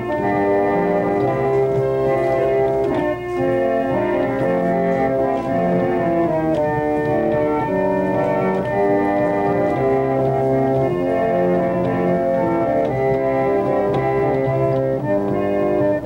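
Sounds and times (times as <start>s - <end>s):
pump organ playing chords: 0.0s - 16.0s.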